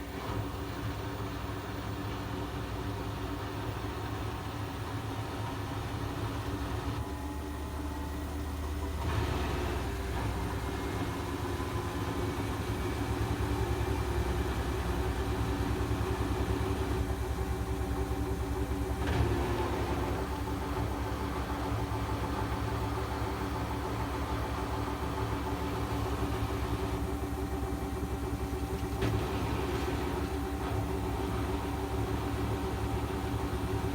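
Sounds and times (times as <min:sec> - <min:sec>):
washing machine spinning: 0:00.0 - 0:33.9.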